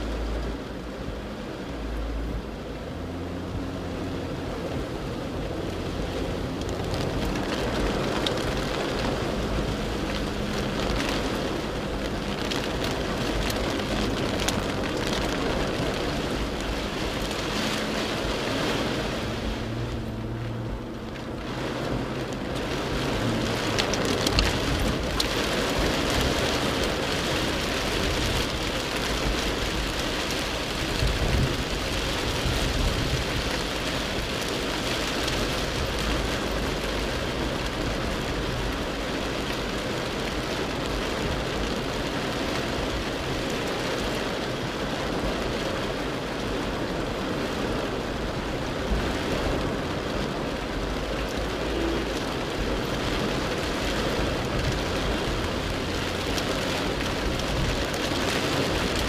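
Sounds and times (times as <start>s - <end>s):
heavy rain on car windscreen: 0.0s - 59.0s
tyres on wet road: 0.0s - 59.0s.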